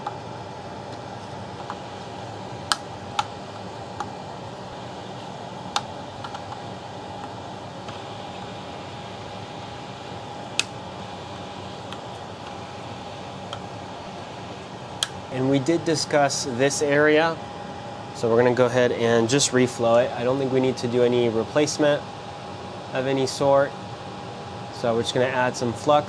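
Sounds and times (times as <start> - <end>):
fan-like hum: 0.0 - 26.0.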